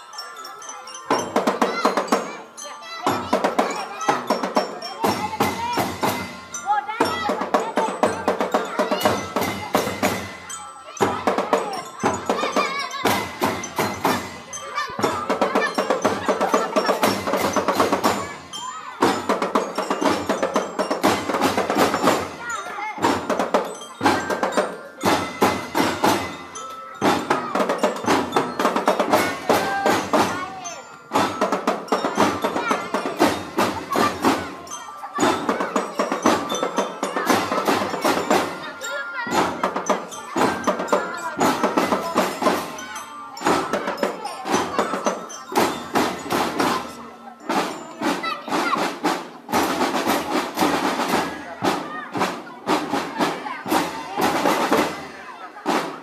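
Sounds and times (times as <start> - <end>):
melodic instruments: 0.0 - 55.8
bell-like mallet percussion: 0.0 - 56.0
drum band playing: 0.0 - 56.0.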